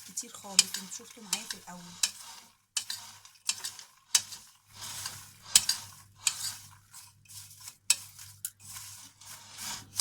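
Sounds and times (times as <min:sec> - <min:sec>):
popcorn being stirred: 0:00.0 - 0:10.0.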